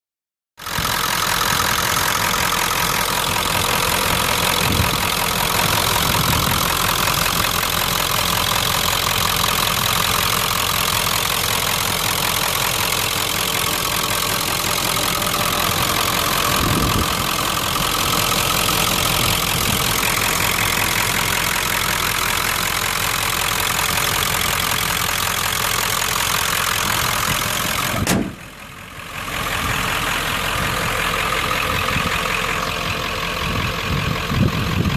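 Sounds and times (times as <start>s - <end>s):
diesel engine idling: 0.6s - 34.9s.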